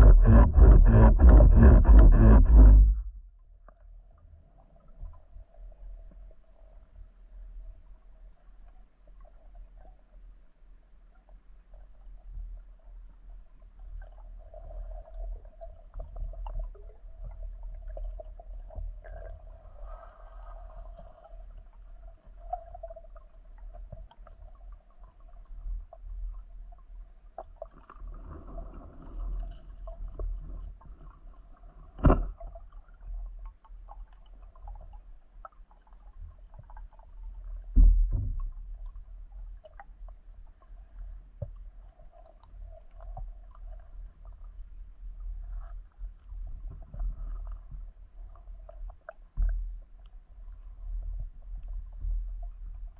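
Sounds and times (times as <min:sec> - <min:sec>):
underwater rumble of water: 0:00.0 - 0:52.9.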